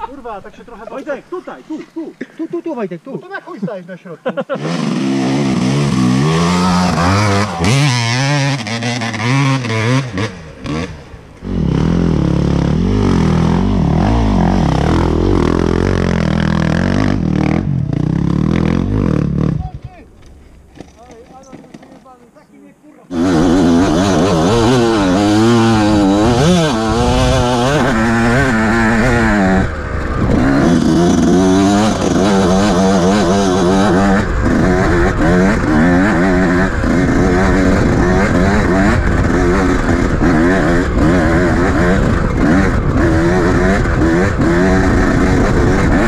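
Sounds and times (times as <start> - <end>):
dirt bike engine revving: 4.3 - 22.1, 23.1 - 46.0.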